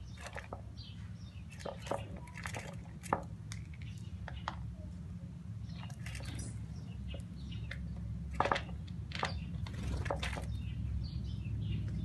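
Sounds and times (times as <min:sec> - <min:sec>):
birds pecking and flapping: 0:00.0 - 0:04.7, 0:05.6 - 0:10.8.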